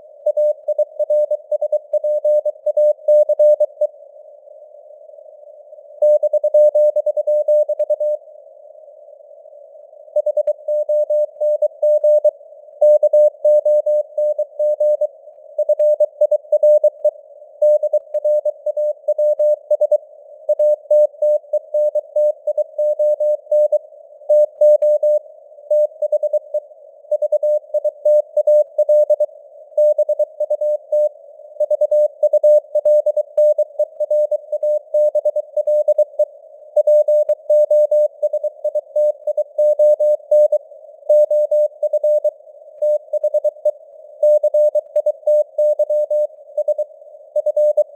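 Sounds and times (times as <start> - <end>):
faint radio noise hiss: 0.0 - 37.5, 38.1 - 47.9.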